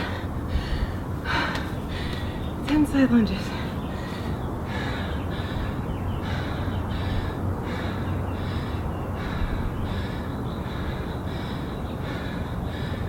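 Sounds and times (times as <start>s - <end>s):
woman breathing hard: 0.0s - 2.6s, 3.5s - 13.0s.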